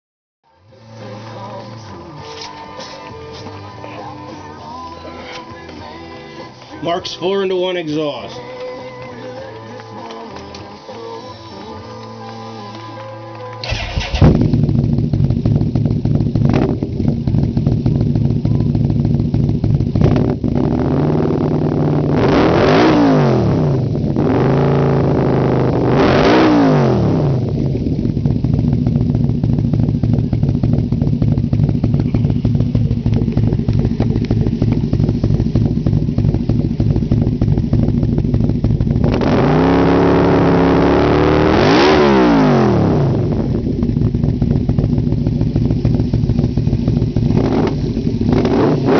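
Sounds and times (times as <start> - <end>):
motorcycle engine idling and revving: 0.6 - 48.9.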